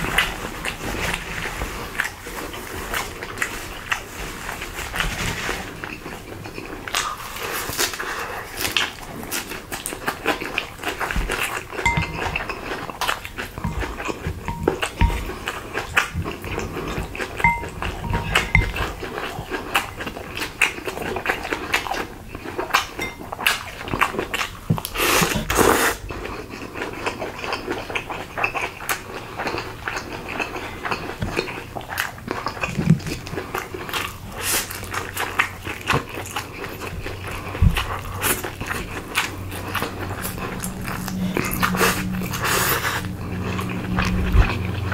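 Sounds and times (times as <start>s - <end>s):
chewing and mouth noises: 5.8s - 44.9s.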